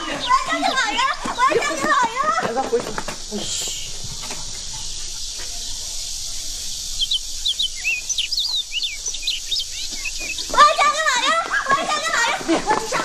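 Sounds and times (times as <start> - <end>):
high hiss of outdoor ambience: 0.0 - 13.0
small birds chirping: 0.0 - 13.0.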